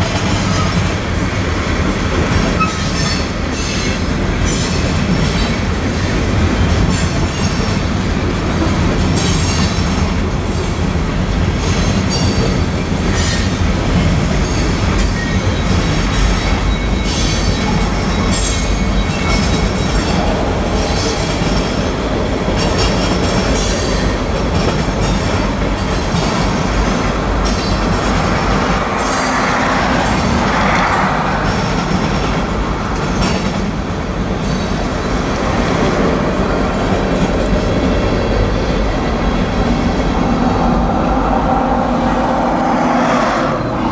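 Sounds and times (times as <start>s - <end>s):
steel wheels rumbling on rail: 0.0s - 43.9s.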